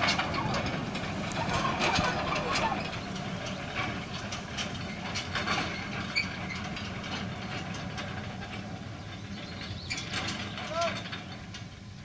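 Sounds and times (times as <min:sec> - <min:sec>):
excavator machinery hum: 0:00.0 - 0:12.0
skip wagons clanking on rails: 0:00.0 - 0:12.0.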